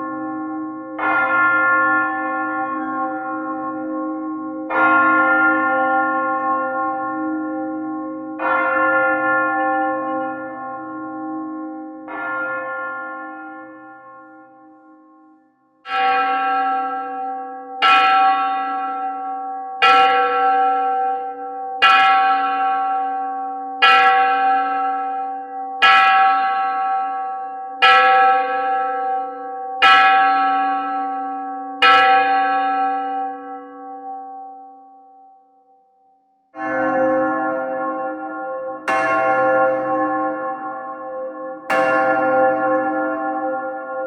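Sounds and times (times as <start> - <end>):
large clock bell striking: 0.0 - 35.5, 36.6 - 44.0.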